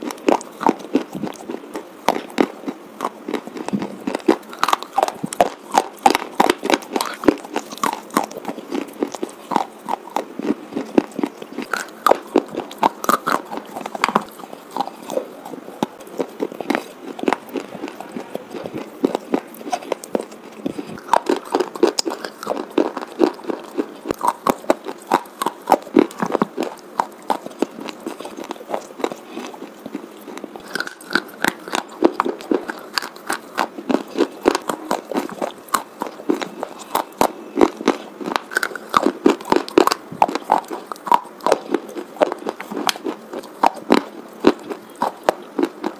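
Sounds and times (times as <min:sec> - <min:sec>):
pencils crunching between teeth: 0:00.0 - 0:45.9.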